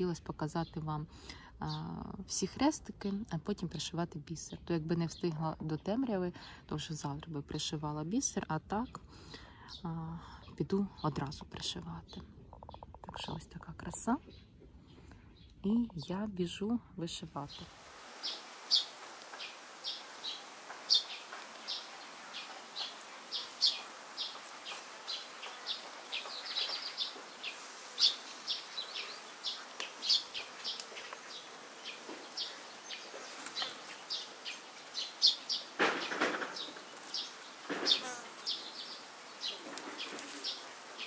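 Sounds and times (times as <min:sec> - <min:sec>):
faint background noise: 0:00.0 - 0:41.0
birds chirping: 0:04.4 - 0:41.0.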